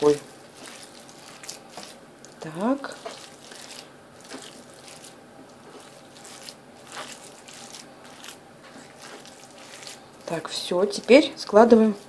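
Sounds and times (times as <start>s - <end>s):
wet squishing of raw meat: 0.0s - 11.3s.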